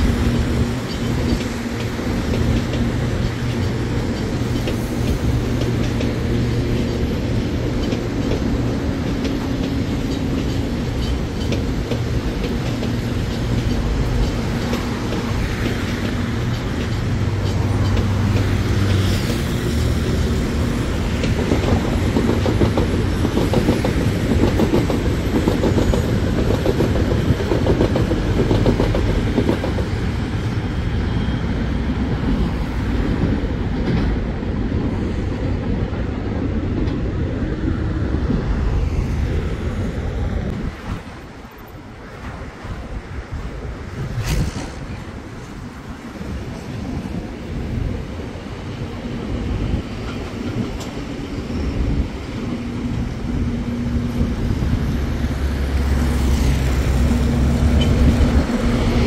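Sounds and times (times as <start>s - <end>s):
wheels clacking over rail joints: 0.0s - 30.7s, 40.1s - 59.0s
train rumbling: 0.0s - 59.0s.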